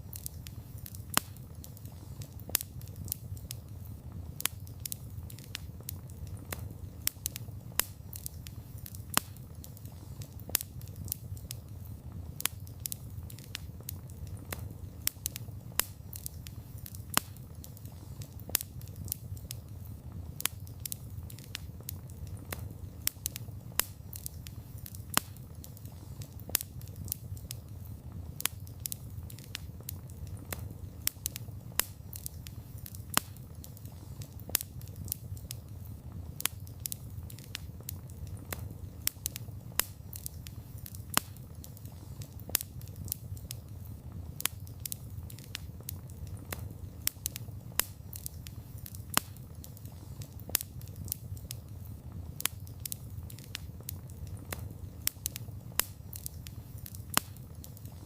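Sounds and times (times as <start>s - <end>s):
campfire crackles and pops: 0.0s - 58.0s
low rumble of flames: 0.0s - 58.0s.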